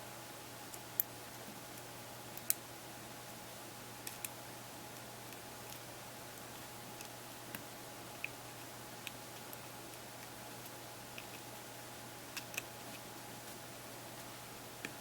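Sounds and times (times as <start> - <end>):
steady hiss and low hum: 0.0 - 15.0.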